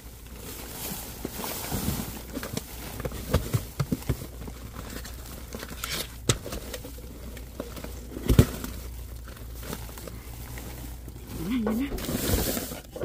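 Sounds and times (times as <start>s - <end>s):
plastic bags rustling and crinkling: 0.0s - 13.0s.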